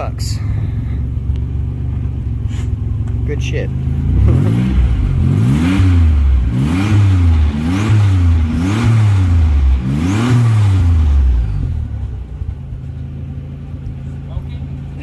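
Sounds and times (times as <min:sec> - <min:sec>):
car engine idling: 0:00.0 - 0:15.0
car engine revving: 0:00.0 - 0:15.0.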